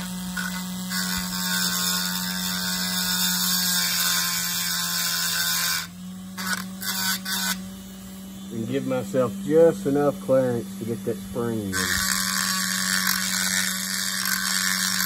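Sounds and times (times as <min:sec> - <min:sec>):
rotary tool grinding metal: 0:00.0 - 0:15.0.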